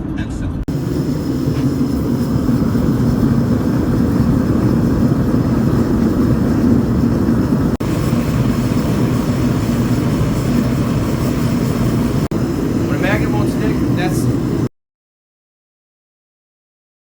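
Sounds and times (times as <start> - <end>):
loud low rumble: 0.2 - 14.7.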